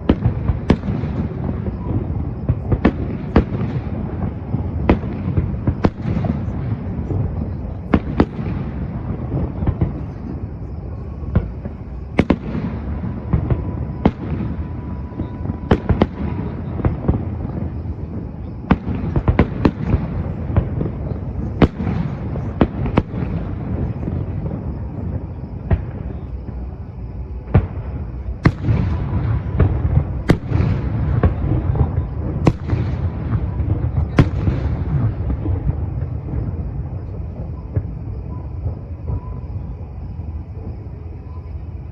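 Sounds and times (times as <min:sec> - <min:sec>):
fireworks bangs: 0:00.0 - 0:41.9.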